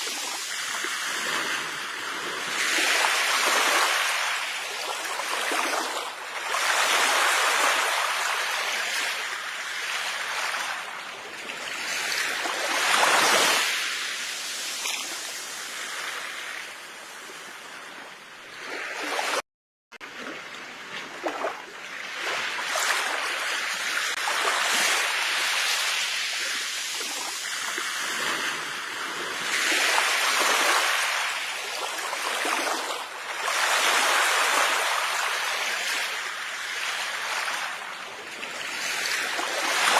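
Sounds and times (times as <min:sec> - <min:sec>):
sea waves washing onto shore: 0:00.0 - 0:19.4, 0:20.0 - 0:39.9.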